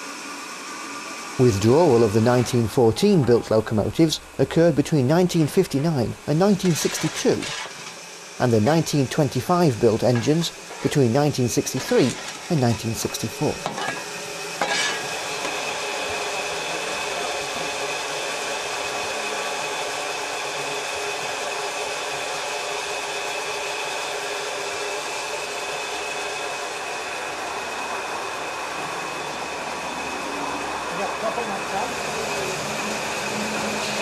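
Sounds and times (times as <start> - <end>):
steam hissing: 0.0 - 34.0.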